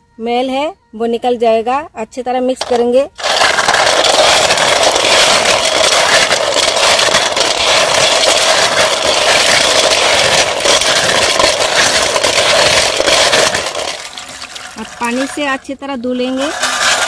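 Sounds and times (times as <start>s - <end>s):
shells rattling in metal bowl: 2.6s - 17.0s.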